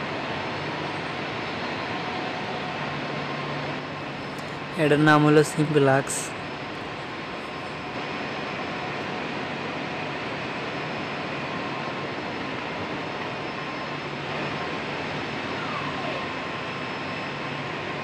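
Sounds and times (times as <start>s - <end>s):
faint high whines: 0.0s - 18.0s
spinning machinery drone: 0.0s - 18.0s.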